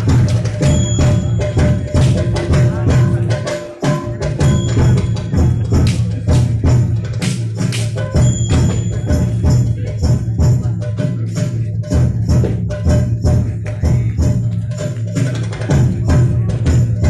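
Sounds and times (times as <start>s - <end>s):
barrel drums playing: 0.0s - 17.0s.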